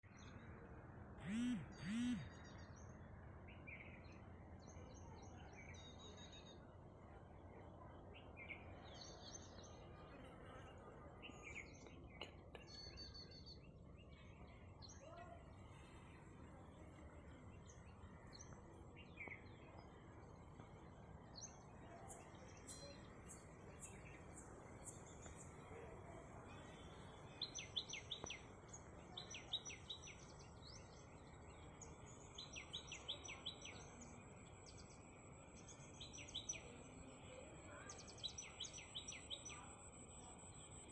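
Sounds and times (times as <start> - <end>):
birds chirping: 1.2 - 40.9.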